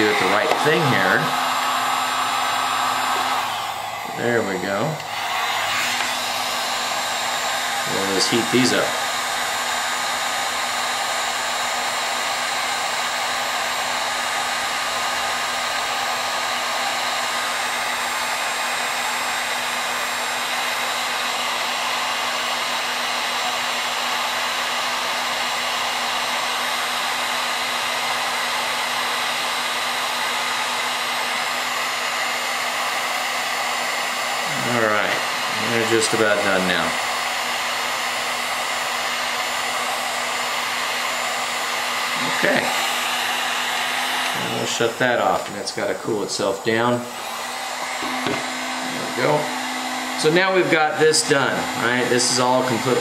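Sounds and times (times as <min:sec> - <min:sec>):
heat gun blowing air: 0:00.0 - 0:53.0.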